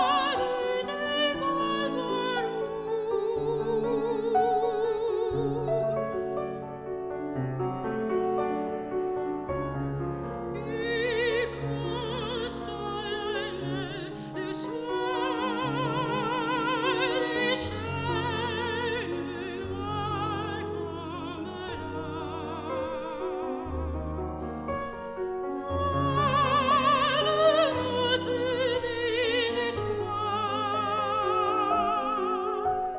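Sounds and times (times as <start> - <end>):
soprano singing with vibrato: 0.0 - 6.7, 10.5 - 23.9, 24.8 - 32.9
piano accompaniment: 0.0 - 32.9.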